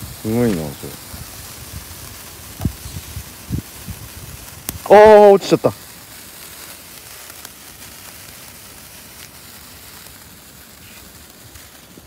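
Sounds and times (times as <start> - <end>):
firework fizzing: 0.0 - 12.0.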